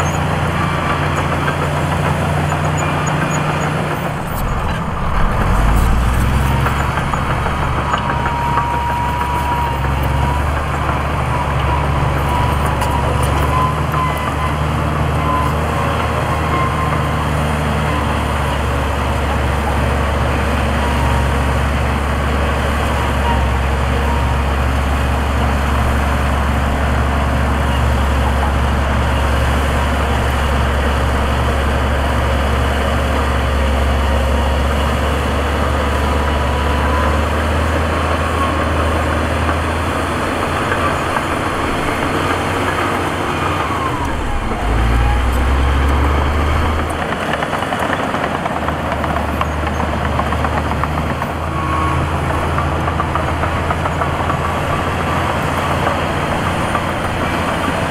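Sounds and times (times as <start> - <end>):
diesel construction machinery engine: 0.0 - 57.9.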